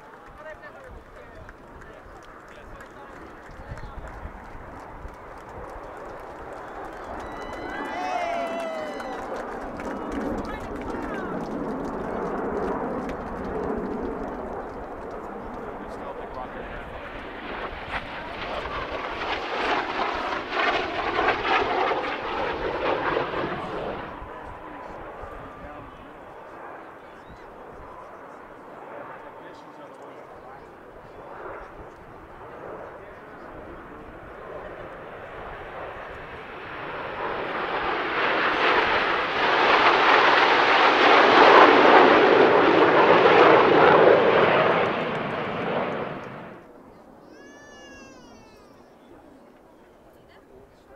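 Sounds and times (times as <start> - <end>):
jet aircraft flying past: 0.0 - 50.9.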